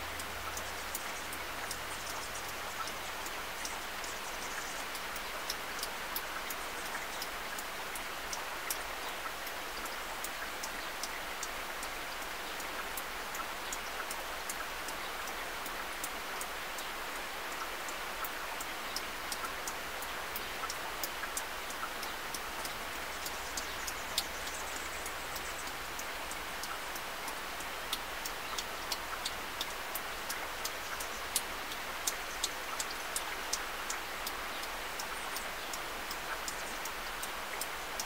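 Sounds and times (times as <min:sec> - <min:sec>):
rain on a windshield: 0:00.0 - 0:38.0.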